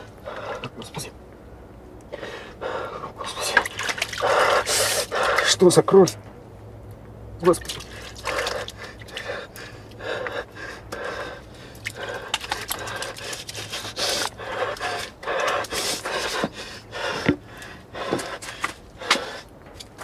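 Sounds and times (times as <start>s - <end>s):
man breathing hard: 0.0s - 0.8s, 2.1s - 5.6s, 7.8s - 19.6s.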